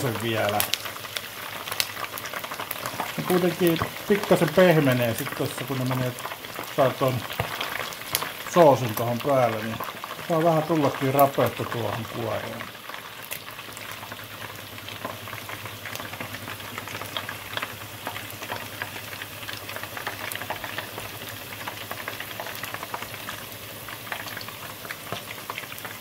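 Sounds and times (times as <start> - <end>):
oil crackling and sizzling: 0.0 - 26.0.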